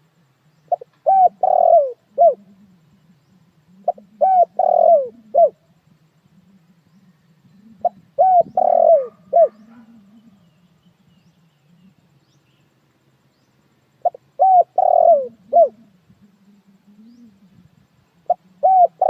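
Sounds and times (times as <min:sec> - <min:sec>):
dove cooing: 0:00.7 - 0:12.2, 0:14.0 - 0:19.0.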